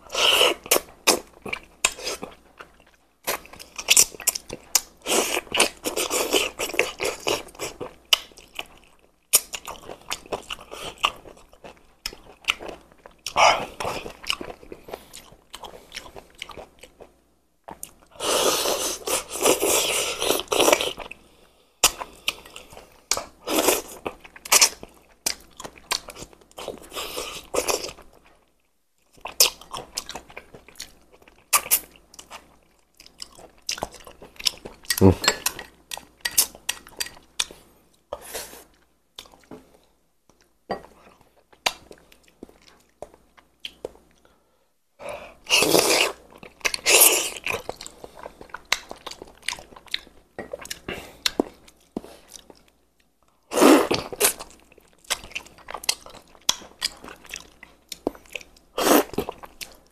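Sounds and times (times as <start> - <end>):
wet chewing and smacking: 0.2 - 18.1, 21.8 - 37.6, 38.6 - 39.5, 45.5 - 59.9.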